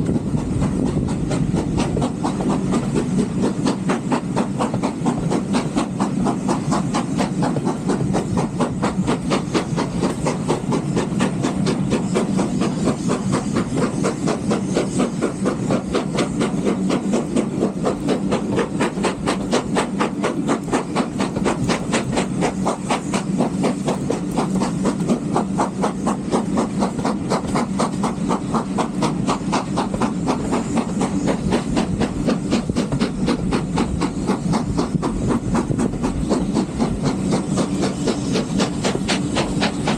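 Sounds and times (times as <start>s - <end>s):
steam hiss: 0.0s - 39.9s
steam locomotive chuffing: 0.0s - 39.9s.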